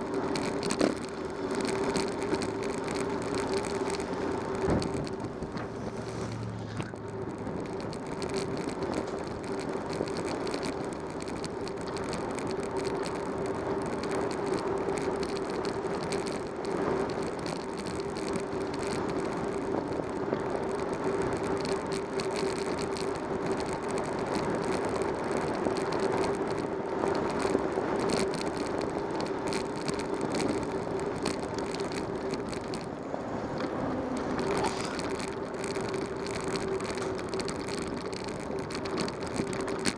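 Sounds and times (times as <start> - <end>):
bicycle tyres and drivetrain whirring: 0.0 - 39.9
light rattling and ticking: 0.0 - 39.9.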